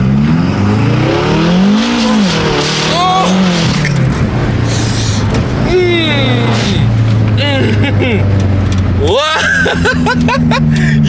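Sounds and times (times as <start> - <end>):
car engine revving at full throttle: 0.0 - 11.0.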